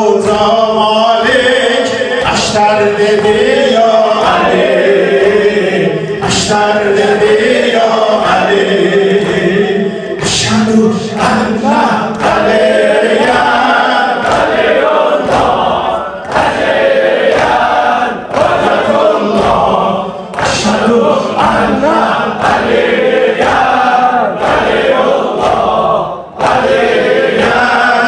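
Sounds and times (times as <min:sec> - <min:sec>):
group chanting a lament: 0:00.0 - 0:28.0.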